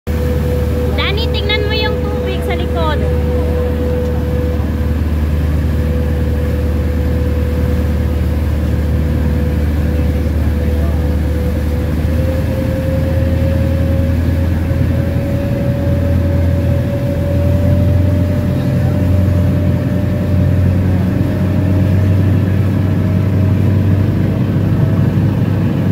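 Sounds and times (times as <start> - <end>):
ferry engine droning with whine: 0.1 - 25.9.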